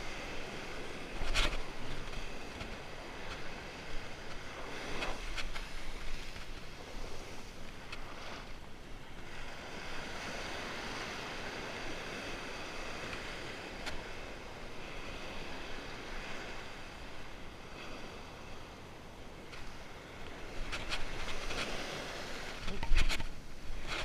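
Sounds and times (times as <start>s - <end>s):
small waves breaking: 0.0s - 24.0s.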